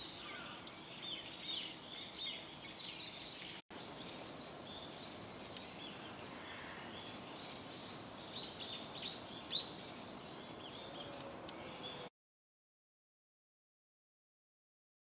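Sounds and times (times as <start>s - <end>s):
small birds chirping: 0.0s - 12.1s
steady background hiss: 0.0s - 12.1s.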